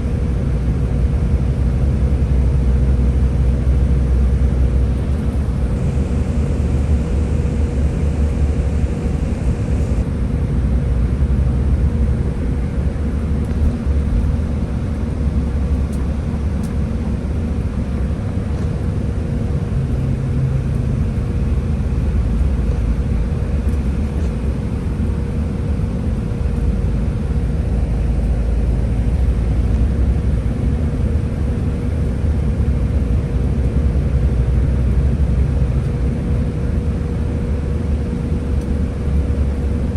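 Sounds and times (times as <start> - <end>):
bus engine and road rumble: 0.0 - 39.9
faint steady whine: 2.1 - 39.9.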